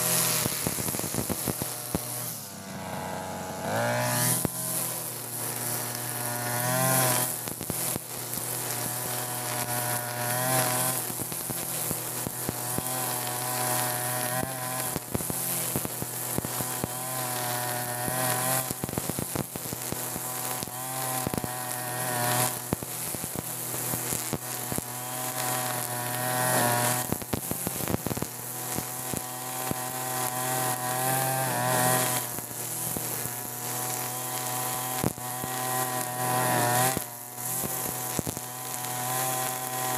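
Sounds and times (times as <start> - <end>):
brush cutter engine revving: 0.0 - 39.9
trimmer line hissing: 0.0 - 39.9.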